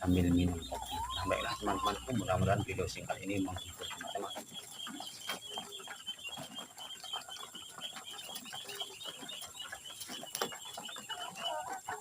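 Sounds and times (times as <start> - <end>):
high chirping: 0.0 - 12.0
pigeons pecking feed: 0.0 - 12.0.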